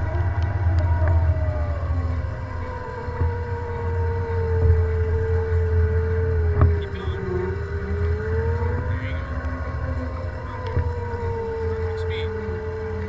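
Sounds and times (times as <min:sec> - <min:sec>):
electric motor whining: 0:00.0 - 0:13.0
low rumble: 0:00.0 - 0:13.0.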